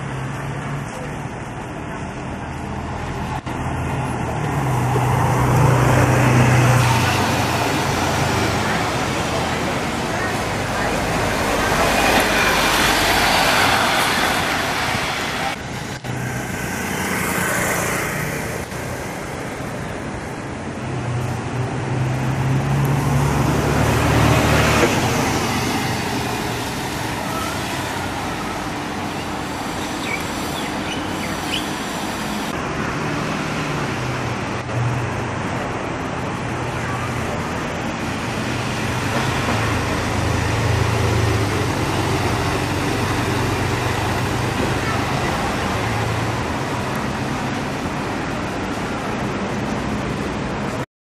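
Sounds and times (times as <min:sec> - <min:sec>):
bus diesel engine: 0:00.0 - 0:50.9
road traffic: 0:00.0 - 0:50.9.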